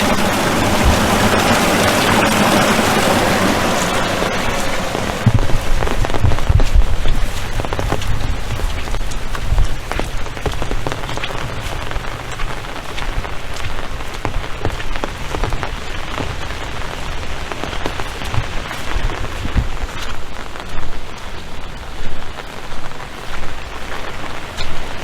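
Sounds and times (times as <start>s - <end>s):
low rumble: 0.0s - 20.8s
sharp raindrop hits: 0.0s - 25.0s
steady rain falling: 0.0s - 25.0s.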